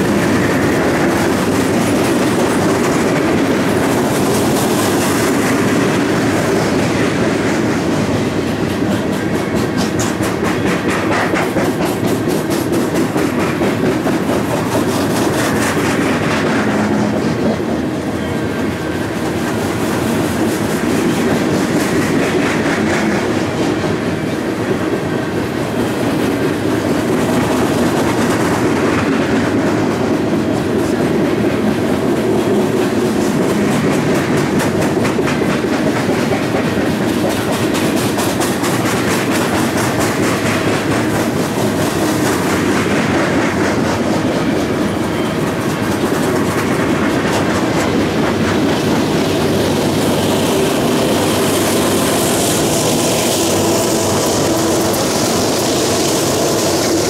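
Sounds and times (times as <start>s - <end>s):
clickety-clack over rail joints: 0.0s - 57.0s
diesel locomotives: 0.0s - 57.0s
train wheels rumbling on rails: 0.0s - 57.0s.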